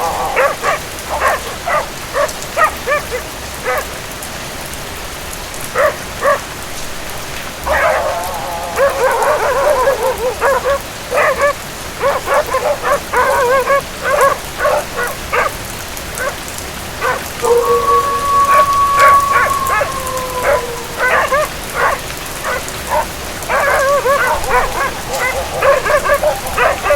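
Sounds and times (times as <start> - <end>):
long held cry: 0.0 - 3.9, 7.6 - 15.5, 17.0 - 26.9
dog barking: 0.0 - 4.0, 5.7 - 6.5, 7.6 - 26.9
steady rain: 0.0 - 26.9.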